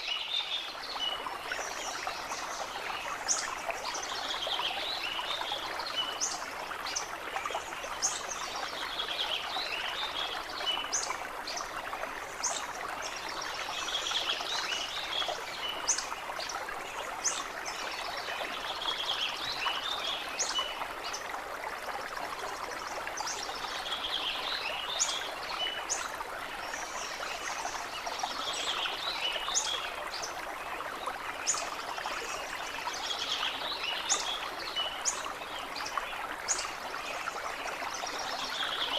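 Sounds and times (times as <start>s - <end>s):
stream running over stones: 0.0s - 38.9s.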